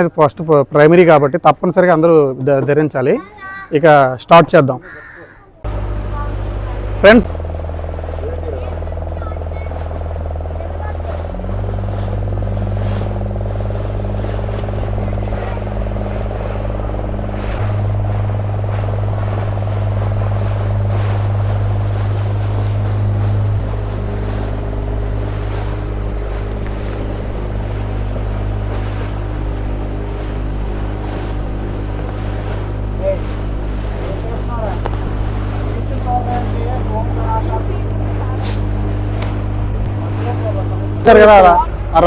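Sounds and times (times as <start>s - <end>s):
motorboat engine humming: 5.0s - 42.0s
faint whooshes of water or wind: 5.6s - 42.0s.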